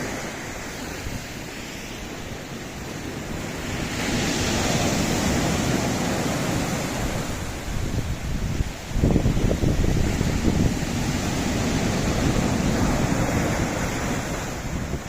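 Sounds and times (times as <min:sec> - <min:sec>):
waves breaking on rocks: 0:00.0 - 0:15.0
wind on microphone: 0:00.0 - 0:15.0.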